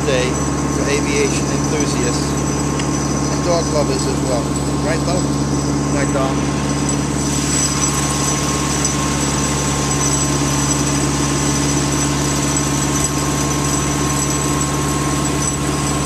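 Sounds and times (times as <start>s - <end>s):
engine running with high whine: 0.0s - 16.0s.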